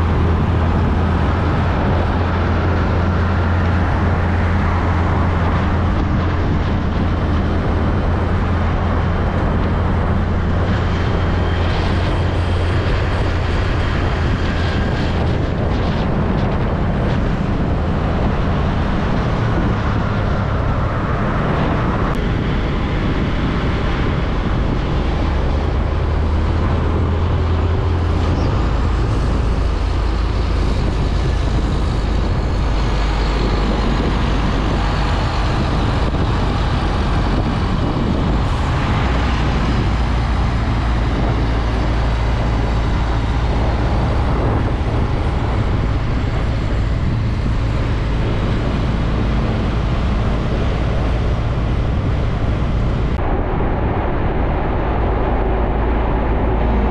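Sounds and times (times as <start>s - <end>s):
traffic noise: 0.0s - 56.9s
truck driving past: 0.0s - 56.9s.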